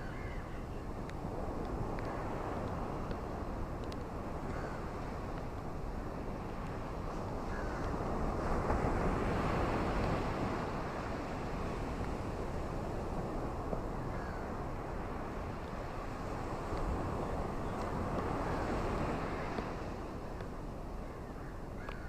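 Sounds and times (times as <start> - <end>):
ocean waves on beach: 0.0 - 22.0.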